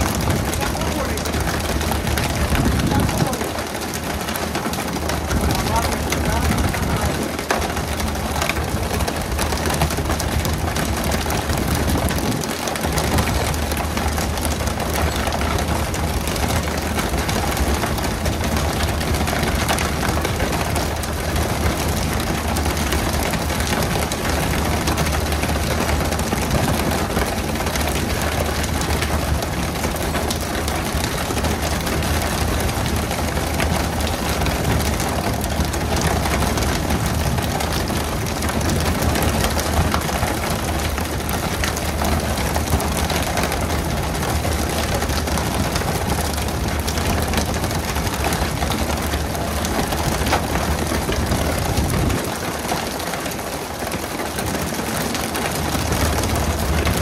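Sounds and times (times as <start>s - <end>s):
boat engine humming: 0.0s - 53.4s
constant rushing noise: 0.0s - 57.0s.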